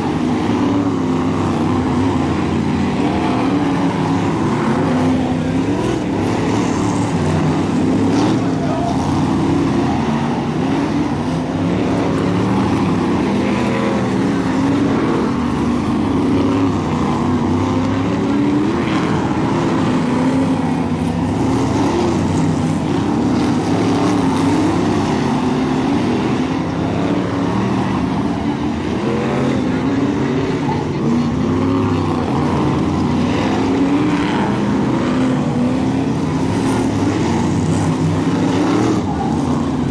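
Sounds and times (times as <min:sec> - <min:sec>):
racing car engines: 0:00.0 - 0:39.9.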